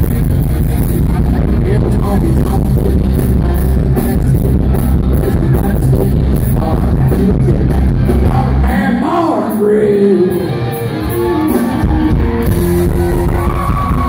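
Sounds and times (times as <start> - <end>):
drums with cymbal beat: 0.0 - 8.7, 10.7 - 14.0
bass: 0.0 - 14.0
guitars: 0.0 - 14.0.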